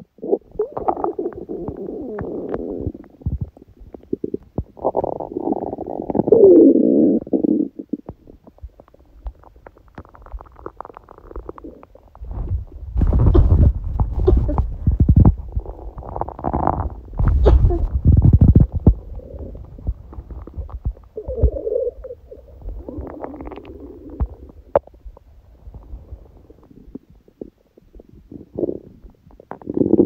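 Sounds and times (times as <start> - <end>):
stomach growling: 0.0 - 30.0.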